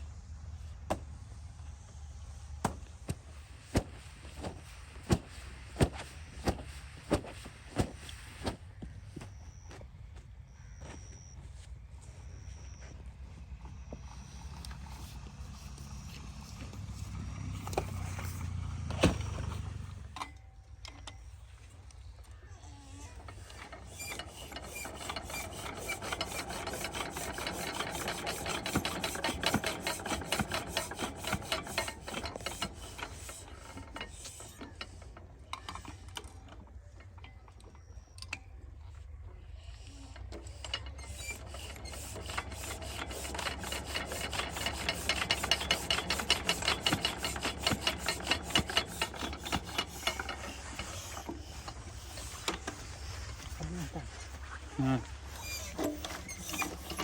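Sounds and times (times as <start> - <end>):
diesel pump engine clattering: 0.0 - 57.0.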